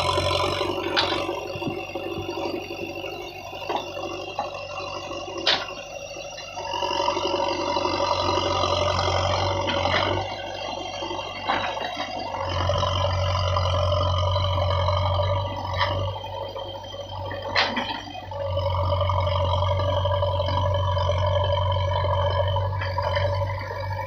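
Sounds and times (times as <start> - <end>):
diesel engine humming: 0.0 - 24.0.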